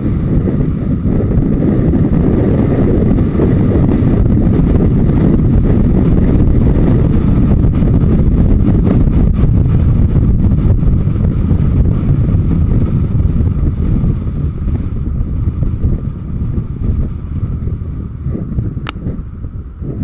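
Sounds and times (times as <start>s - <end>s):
motorcycle engine running: 0.0s - 20.0s
wind rush on microphone: 0.0s - 20.0s.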